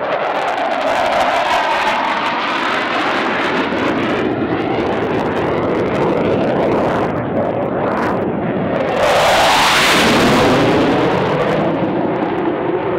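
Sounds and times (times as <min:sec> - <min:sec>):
jet roar: 0:00.0 - 0:12.9.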